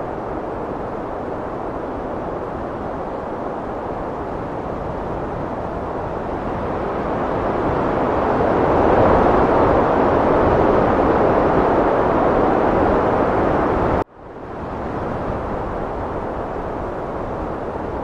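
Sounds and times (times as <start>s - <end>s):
heavy wind rushing: 0.0s - 18.0s.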